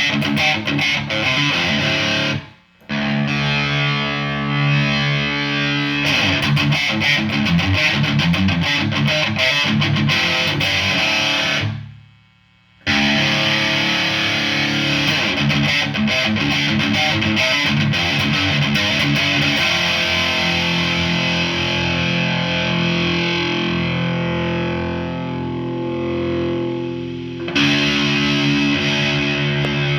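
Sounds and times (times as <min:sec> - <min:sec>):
electric guitar playing: 0:00.0 - 0:11.9, 0:12.8 - 0:29.9.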